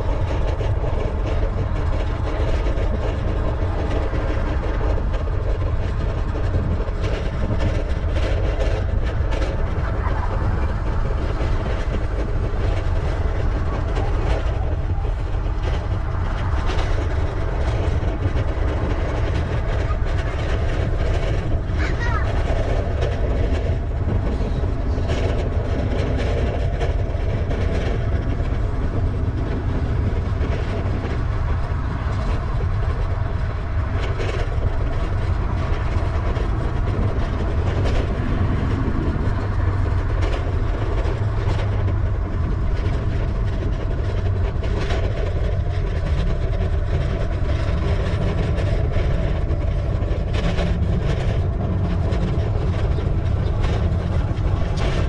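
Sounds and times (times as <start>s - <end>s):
tyre and path noise: 0.0s - 55.0s
wind rumble on microphone: 0.0s - 55.0s.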